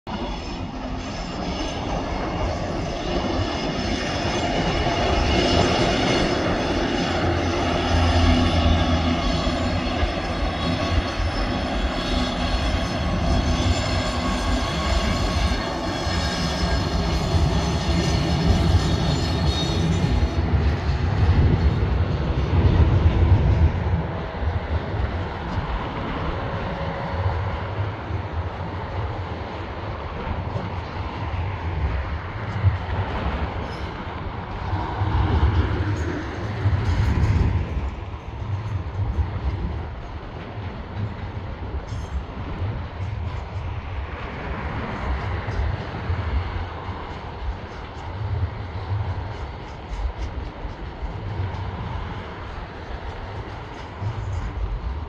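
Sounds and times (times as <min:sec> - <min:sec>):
diesel locomotive engine drone: 0:00.0 - 0:55.0
freight train rumbling over bridge: 0:00.0 - 0:55.0.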